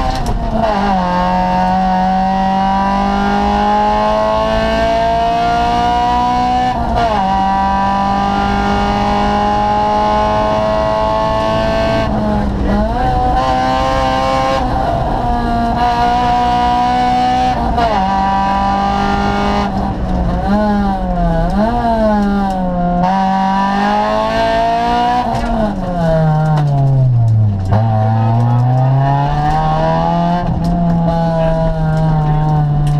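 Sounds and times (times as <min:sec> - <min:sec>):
car engine under hard driving: 0:00.0 - 0:32.9.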